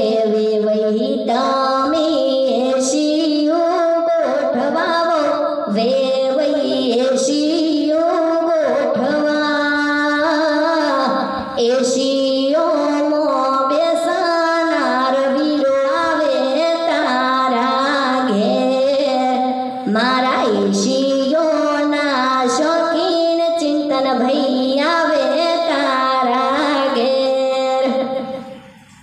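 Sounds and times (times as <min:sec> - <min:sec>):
woman singing folk song: 0:00.0 - 0:28.3.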